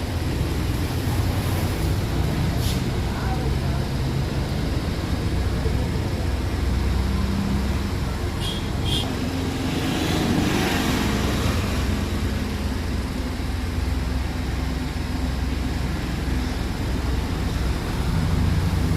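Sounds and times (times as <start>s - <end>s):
road traffic rumble: 0.0s - 18.9s.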